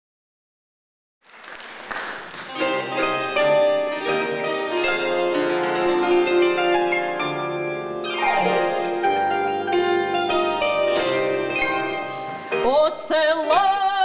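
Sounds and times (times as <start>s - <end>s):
plucked strings playing: 2.4s - 14.0s.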